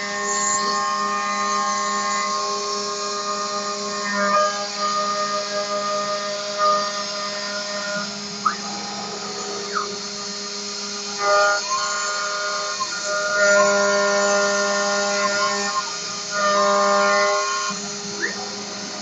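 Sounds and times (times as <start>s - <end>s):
milling machine cutting metal: 0.0s - 19.0s.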